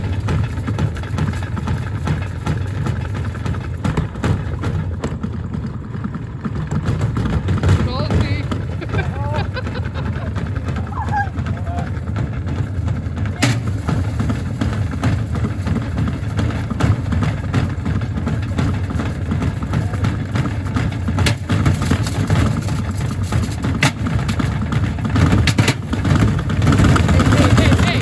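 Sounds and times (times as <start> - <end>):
washing machine rumbling: 0.0 - 28.0.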